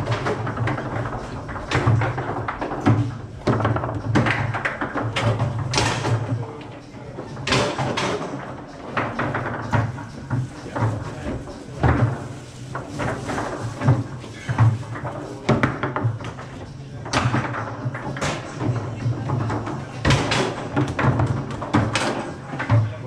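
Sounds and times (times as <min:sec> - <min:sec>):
foosball ball and rods knocking: 0:00.0 - 0:23.0.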